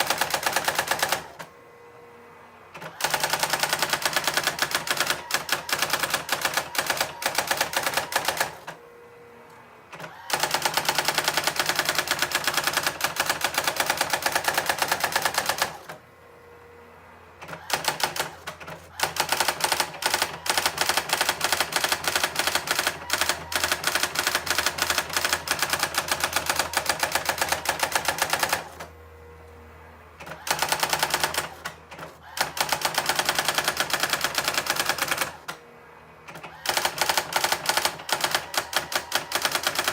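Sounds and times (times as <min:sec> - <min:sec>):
electronic typewriter printing: 0:00.0 - 0:01.5, 0:02.8 - 0:08.8, 0:09.9 - 0:16.0, 0:17.4 - 0:28.9, 0:30.2 - 0:35.6, 0:36.3 - 0:39.9
faint motor hum: 0:00.0 - 0:39.9.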